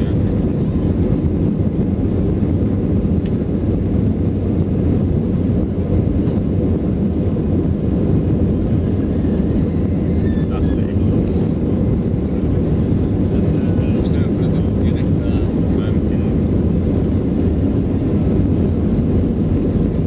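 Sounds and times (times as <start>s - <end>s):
jet engines and wheels rumbling: 0.0s - 20.0s.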